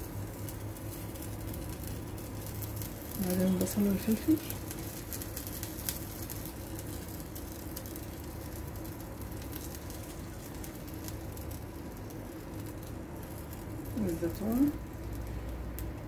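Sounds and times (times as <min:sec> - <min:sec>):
gas burner rumble: 0:00.0 - 0:16.0.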